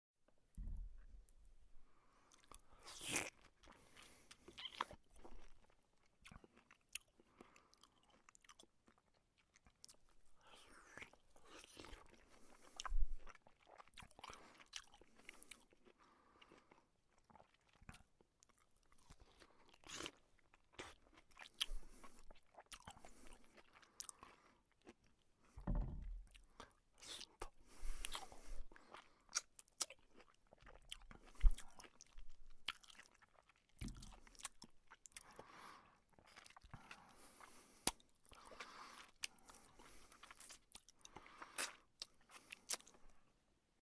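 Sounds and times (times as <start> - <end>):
person chewing juicy fruit: 2.3 - 43.3.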